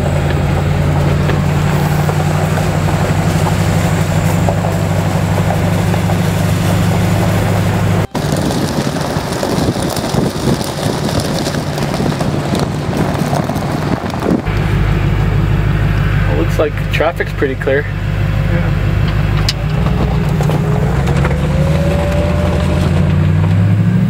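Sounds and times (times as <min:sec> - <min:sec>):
engine hiss: 0:00.0 - 0:23.0
truck engine running: 0:00.0 - 0:24.0.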